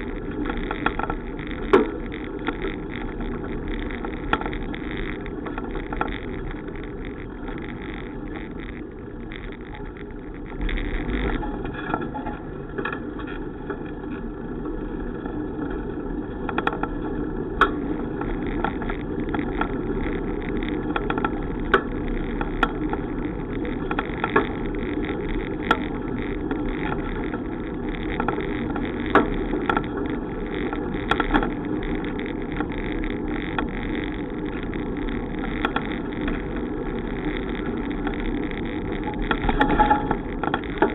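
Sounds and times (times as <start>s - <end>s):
bicycle riding rumble: 0.0s - 40.9s
sharp clicks and rattles: 0.0s - 40.9s.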